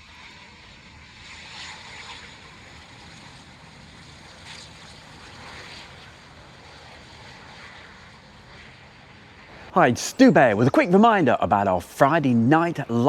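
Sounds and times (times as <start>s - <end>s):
distant jet engines rushing: 0.0s - 13.0s.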